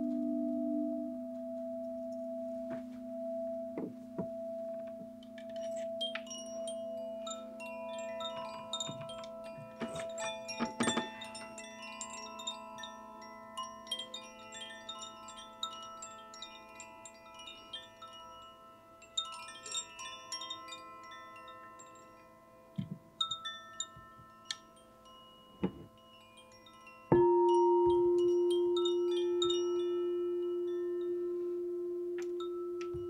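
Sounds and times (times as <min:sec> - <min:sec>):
singing bowl ringing: 0:00.0 - 0:33.0
chimes tinkling: 0:01.6 - 0:33.0.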